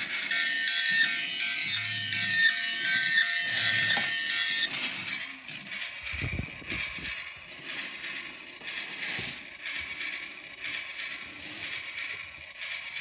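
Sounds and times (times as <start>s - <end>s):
toy train motor whirring: 0.0s - 13.0s.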